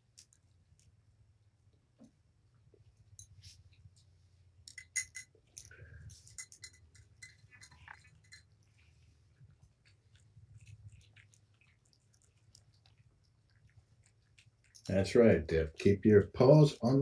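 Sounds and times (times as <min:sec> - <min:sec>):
cats eating from bowls: 0:02.6 - 0:17.0.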